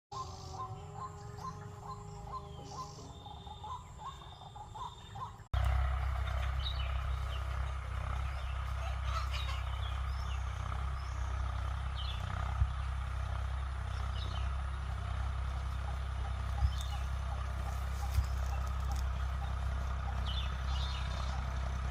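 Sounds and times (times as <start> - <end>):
bird chirps: 0.1 - 21.7.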